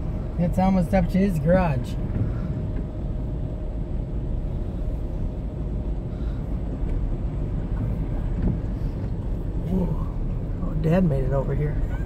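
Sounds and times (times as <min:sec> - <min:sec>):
car driving through floodwater: 0:00.0 - 0:12.0.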